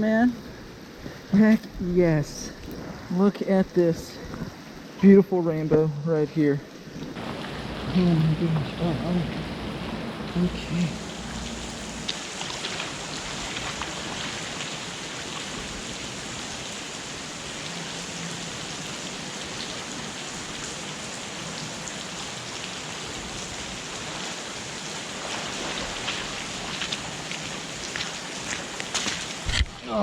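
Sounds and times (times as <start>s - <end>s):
rushing water hiss: 0.0s - 30.0s.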